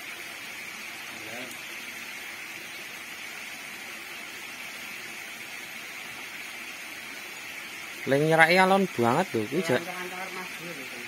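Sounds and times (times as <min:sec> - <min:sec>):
river water hissing: 0:00.0 - 0:11.0.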